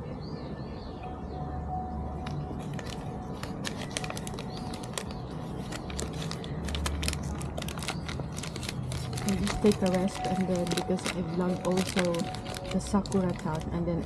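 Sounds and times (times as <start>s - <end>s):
bird chirping: 0.0s - 12.2s
small clicks and crackles: 2.2s - 13.7s.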